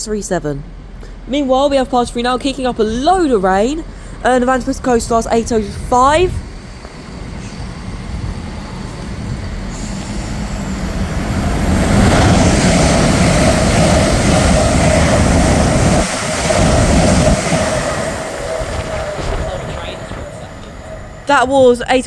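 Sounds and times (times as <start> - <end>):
train hum: 0.0 - 22.0
train wheels and air rushing: 0.6 - 22.0.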